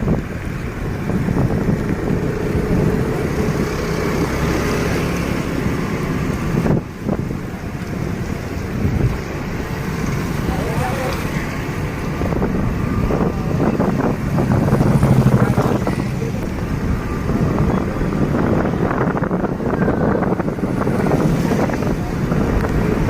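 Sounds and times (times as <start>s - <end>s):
rain shower: 0.0s - 23.0s
wind gusting against microphone: 0.0s - 23.0s.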